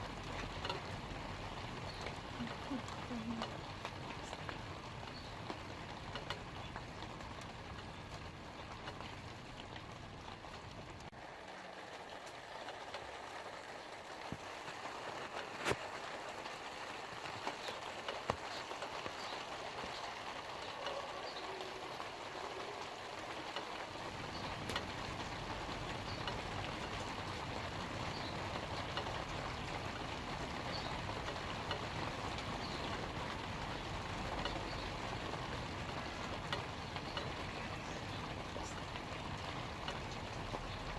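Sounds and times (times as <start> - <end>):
light rain on leaves: 0.0 - 40.9.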